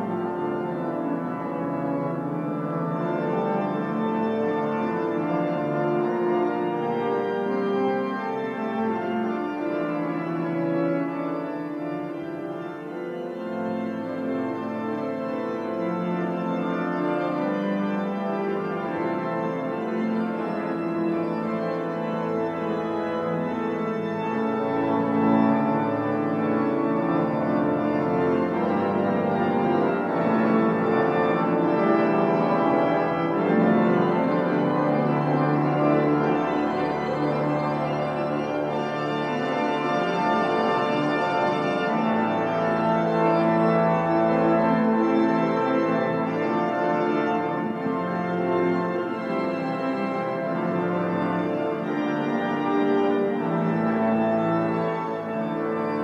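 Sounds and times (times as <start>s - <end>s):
pipe organ playing: 0.0s - 56.0s.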